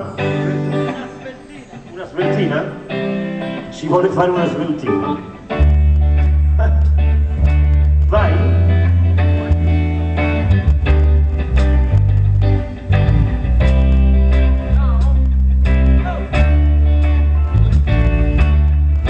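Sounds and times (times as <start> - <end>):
bass guitar: 0.0 - 19.0
electric guitar: 0.0 - 19.0.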